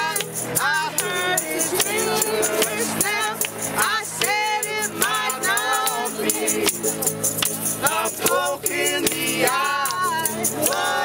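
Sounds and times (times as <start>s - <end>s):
several voices singing: 0.0s - 11.0s
strummed ukulele and guitar: 0.0s - 11.0s
tambourine and hand shakers: 0.0s - 11.0s.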